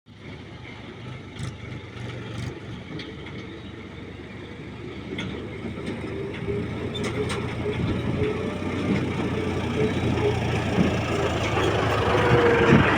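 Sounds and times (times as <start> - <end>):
diesel engine running: 0.1 - 12.9.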